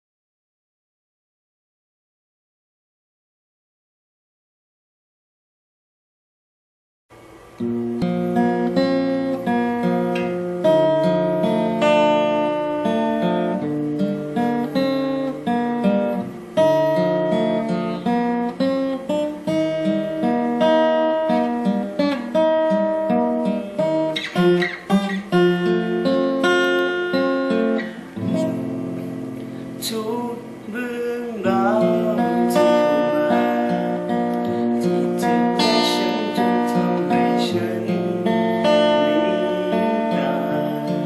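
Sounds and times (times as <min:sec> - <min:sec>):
acoustic guitar strumming chords: 0:07.1 - 0:41.0.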